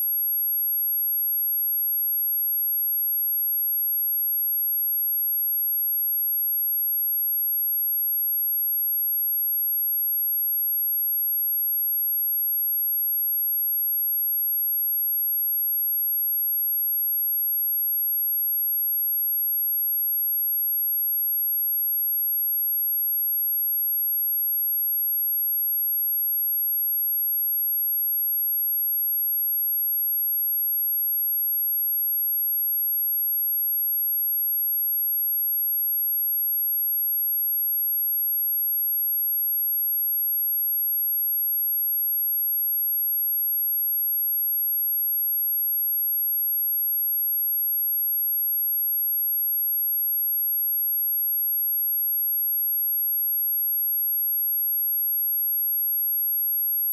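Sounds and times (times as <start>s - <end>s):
high-pitched sine test tone: 0.0s - 2.0s, 11.9s - 56.9s.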